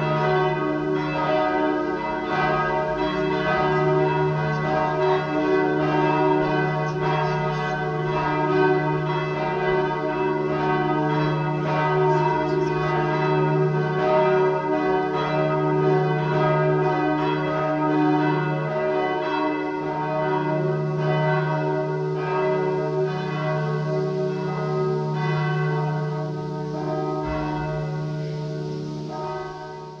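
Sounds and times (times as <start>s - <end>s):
church bells ringing in a peal: 0.0s - 30.0s.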